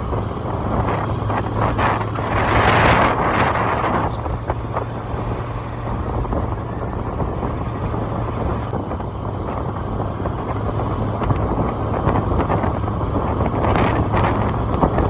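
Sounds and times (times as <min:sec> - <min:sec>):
motorcycle engine drone: 0:00.0 - 0:15.0
wind on microphone: 0:00.0 - 0:15.0.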